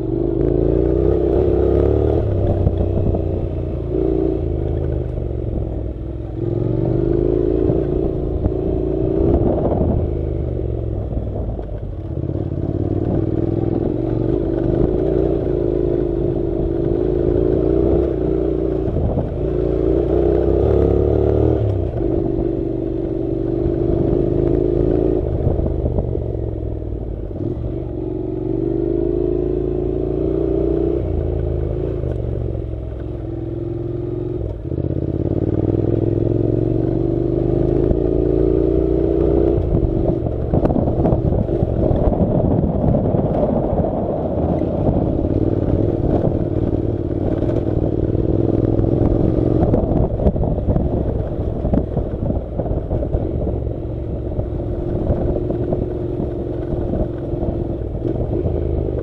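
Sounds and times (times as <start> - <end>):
motorcycle engine running under load: 0.0 - 59.0.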